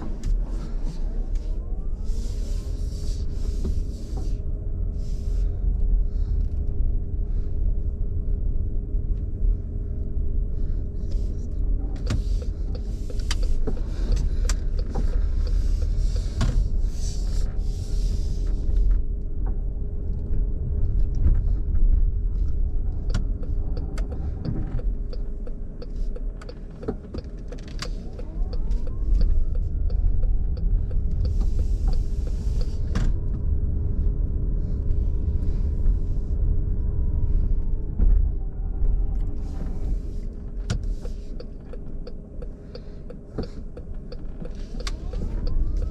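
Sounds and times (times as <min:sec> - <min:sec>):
road rumble: 0:00.0 - 0:45.9.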